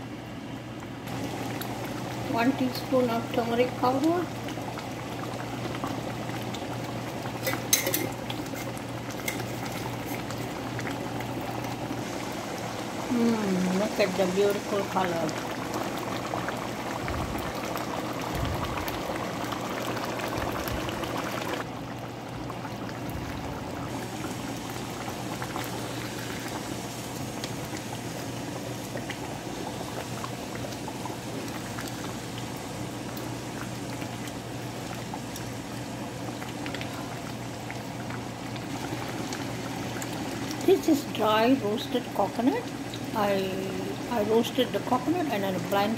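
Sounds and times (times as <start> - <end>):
curry bubbling in a pan: 0.8 - 45.9.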